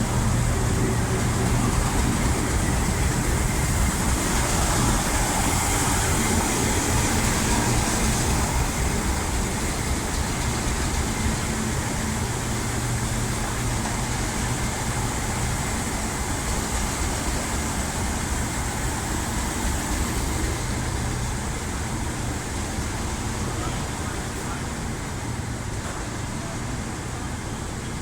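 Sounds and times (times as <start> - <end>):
train running: 0.0 - 28.0.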